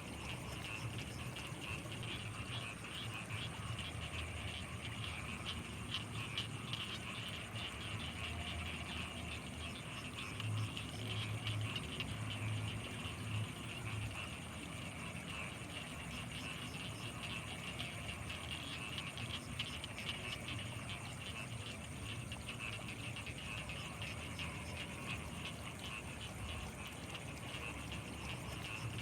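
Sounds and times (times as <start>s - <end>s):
frogs and insects chirring: 0.0s - 29.0s
high steady insect tone: 0.0s - 29.0s
low pulsing frog calls: 0.0s - 29.0s.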